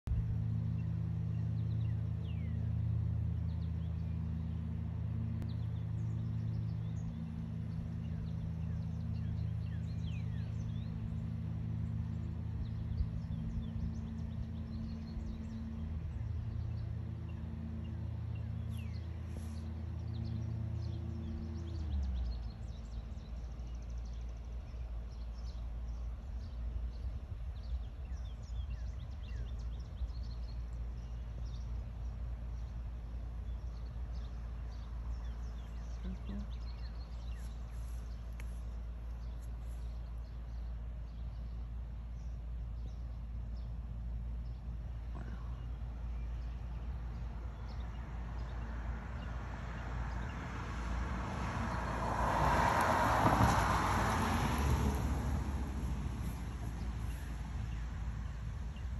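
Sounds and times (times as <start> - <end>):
low machine hum: 0.0 - 58.9
low rumble: 0.0 - 58.9.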